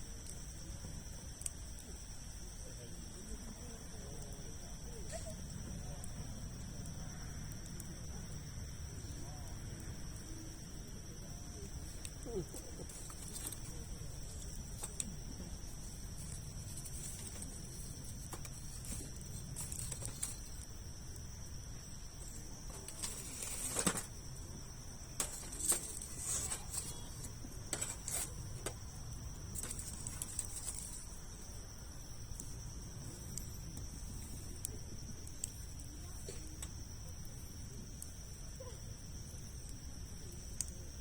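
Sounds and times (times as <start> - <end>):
fire crackling and popping: 0.0 - 41.0
low fire rumble: 0.0 - 41.0.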